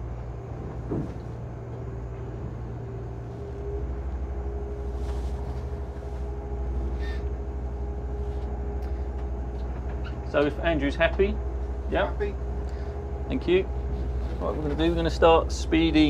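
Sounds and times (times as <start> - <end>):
diesel boat engines rumbling: 0.0 - 16.0.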